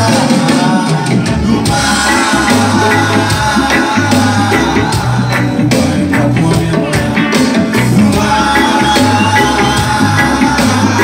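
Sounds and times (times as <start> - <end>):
reggae band playing: 0.0 - 11.0.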